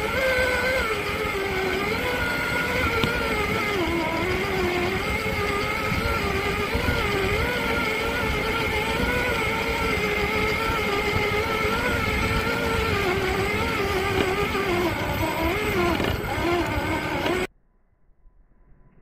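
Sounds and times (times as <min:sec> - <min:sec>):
electric motor and gear whine: 0:00.0 - 0:17.5.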